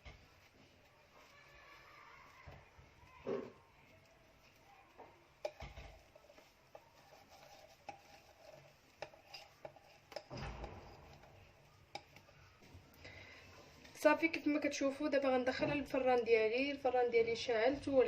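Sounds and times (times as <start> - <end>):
utensils clinking and scraping bowl: 0.0 - 17.0.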